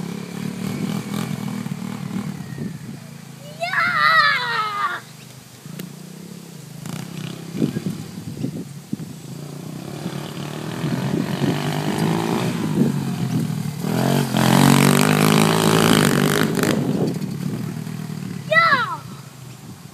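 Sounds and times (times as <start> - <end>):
quad bike engine revving: 0.0 - 19.4.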